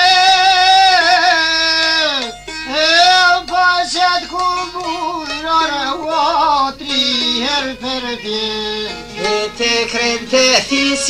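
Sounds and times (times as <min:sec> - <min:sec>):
man singing with vibrato: 0:00.0 - 0:11.0
plucked lutes: 0:00.0 - 0:11.0.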